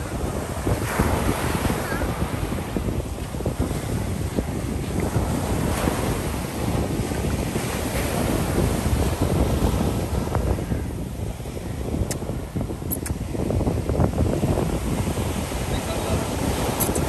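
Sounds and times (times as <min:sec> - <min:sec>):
surf breaking on sand: 0:00.0 - 0:17.0
wind buffeting microphone: 0:00.0 - 0:17.0.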